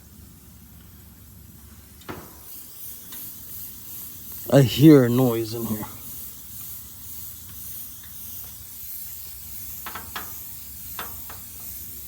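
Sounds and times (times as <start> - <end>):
refrigerant hissing from leak: 0.0 - 12.0.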